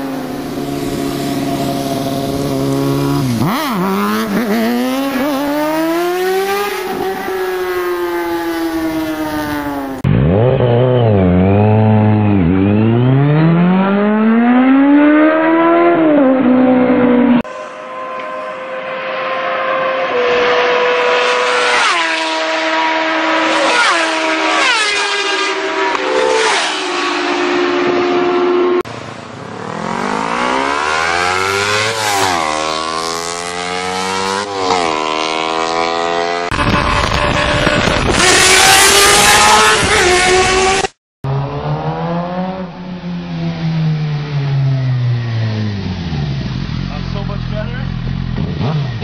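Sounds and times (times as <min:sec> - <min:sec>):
motorbike engine revving: 0:00.0 - 0:49.0
motorbikes passing at full throttle: 0:00.0 - 0:49.0.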